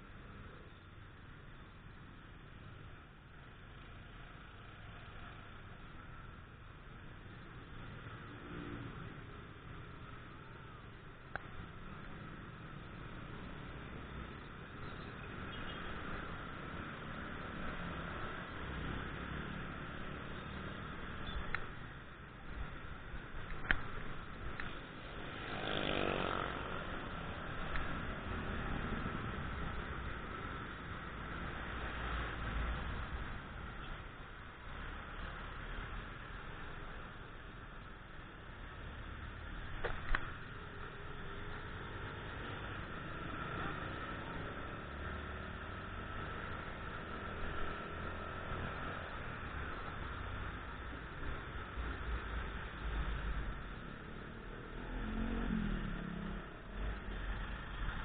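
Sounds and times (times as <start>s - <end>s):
road and wind noise: 0.0s - 58.0s
surrounding traffic: 0.0s - 58.0s.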